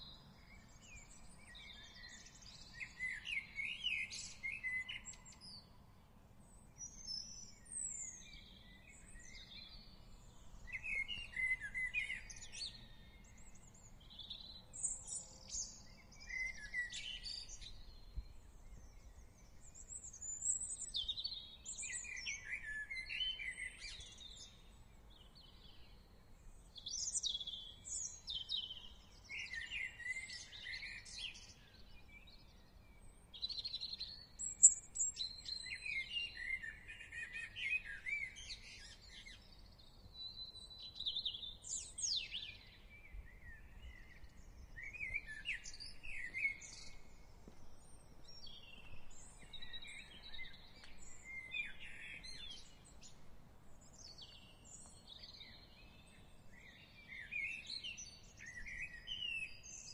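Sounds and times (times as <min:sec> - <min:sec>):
faint background noise: 0:00.0 - 0:59.9
songbirds chirping: 0:00.0 - 0:59.9.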